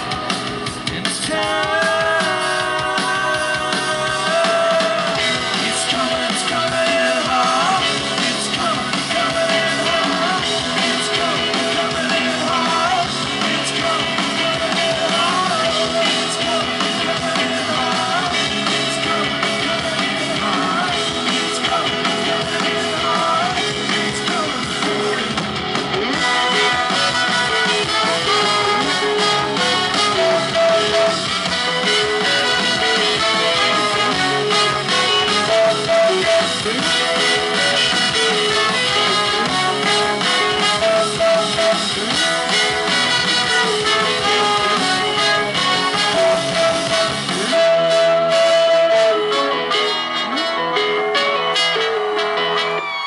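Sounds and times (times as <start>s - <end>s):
person singing: 0.0s - 25.4s, 26.0s - 52.7s
live rock band playing: 0.0s - 53.0s
trumpet: 0.0s - 53.0s.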